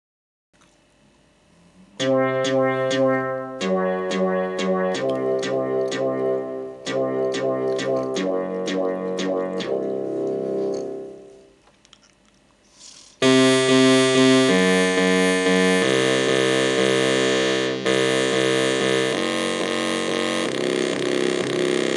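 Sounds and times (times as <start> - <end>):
bright sustained synthesizer chords: 2.0 - 11.6, 13.2 - 21.9
plucky synthesizer note pattern: 2.0 - 11.6, 13.2 - 21.9.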